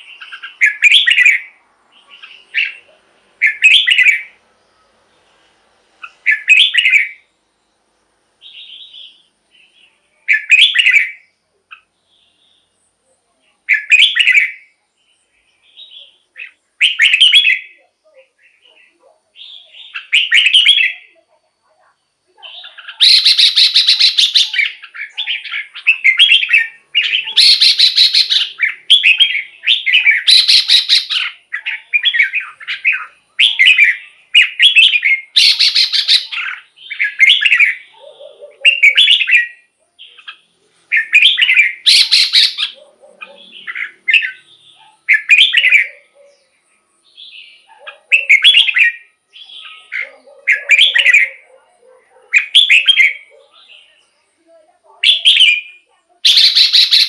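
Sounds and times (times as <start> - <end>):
bird whistling song: 0.0 - 4.4, 6.0 - 7.3, 8.4 - 12.7, 13.7 - 14.7, 15.6 - 17.8, 19.4 - 21.2, 22.4 - 46.3, 47.2 - 51.5, 52.4 - 53.4, 55.0 - 57.0.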